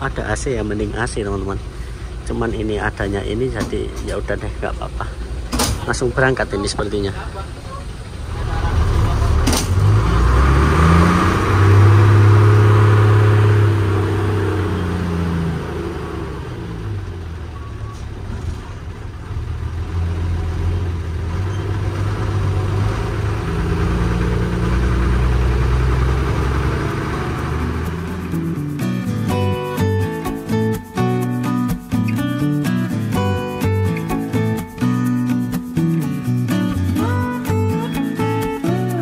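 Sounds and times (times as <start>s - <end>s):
bus engine revving: 0.0s - 39.0s.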